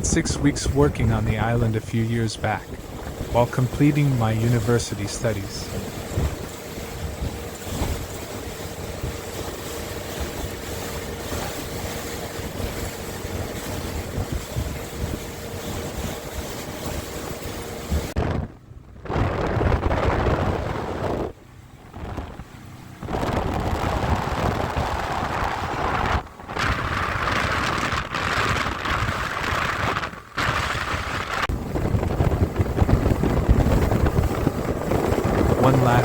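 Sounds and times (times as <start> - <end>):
water rushing: 0.0 - 18.2, 22.0 - 36.0
outboard motor running: 0.0 - 29.8, 31.3 - 36.0
wind buffeting microphone: 0.0 - 36.0.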